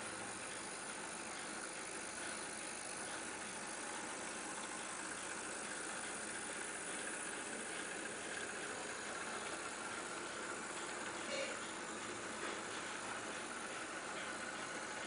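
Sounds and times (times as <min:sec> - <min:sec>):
model train wheels rolling on rails: 0:00.0 - 0:15.0
small electric motor running: 0:00.0 - 0:15.0.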